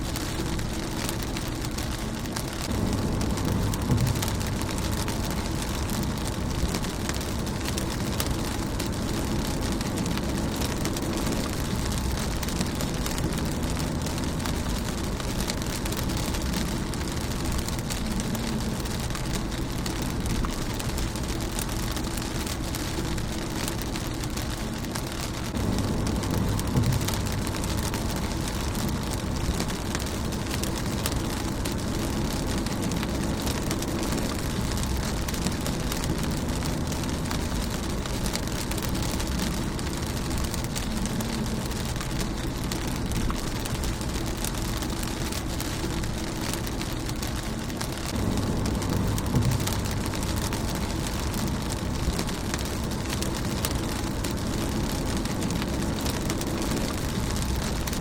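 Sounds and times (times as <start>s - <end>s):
low rumble: 0.0s - 58.0s
rain on a windshield: 0.0s - 58.0s.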